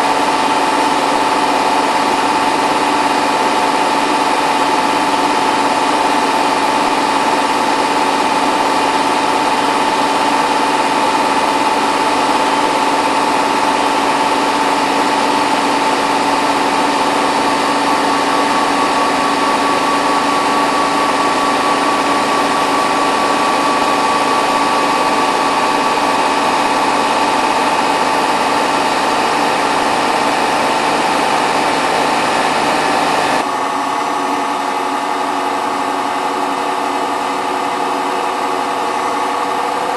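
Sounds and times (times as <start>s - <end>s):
washing machine spin whine: 0.0s - 39.9s.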